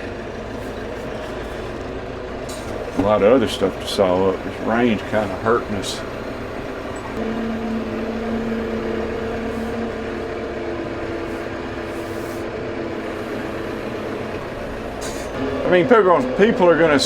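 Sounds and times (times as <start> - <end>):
engine whine: 0.0 - 17.0
tractor engine running: 0.0 - 17.0.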